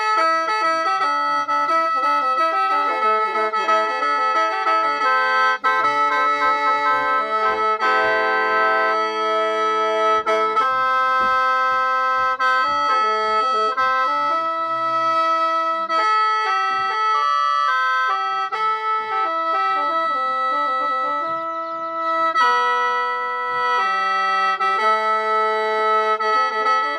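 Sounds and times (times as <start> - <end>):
bamboo mouth organ playing: 0.0 - 26.9.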